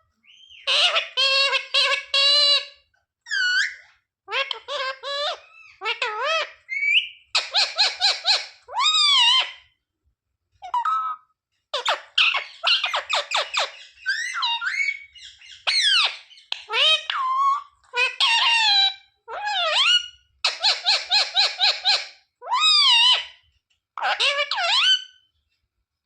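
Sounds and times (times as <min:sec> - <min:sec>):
parrot calling and chattering: 0:00.2 - 0:09.7, 0:10.6 - 0:25.3.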